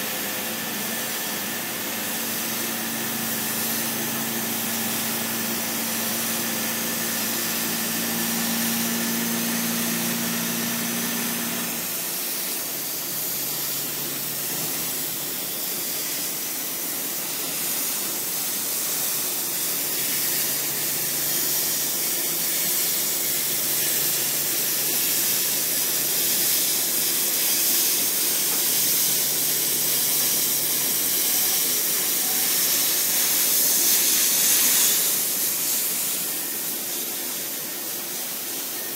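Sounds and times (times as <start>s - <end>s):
laser cutting head hissing: 0.1s - 38.9s.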